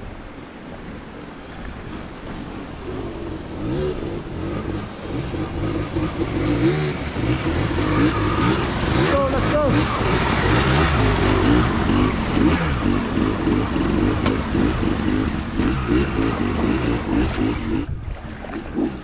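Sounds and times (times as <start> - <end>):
vehicle engine revving: 2.7 - 17.9.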